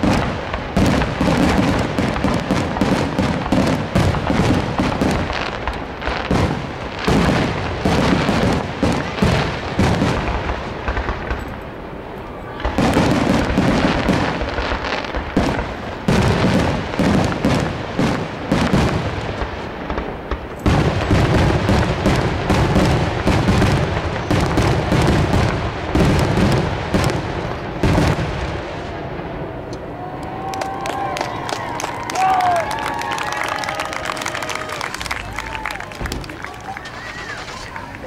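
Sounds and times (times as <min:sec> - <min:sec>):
fireworks bursts and booms: 0:00.0 - 0:38.0.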